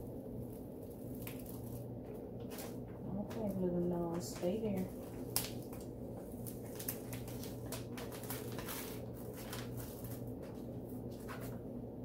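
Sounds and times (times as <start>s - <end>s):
steady low hum: 0.0s - 12.0s
tape crackling and rustling: 0.0s - 12.0s.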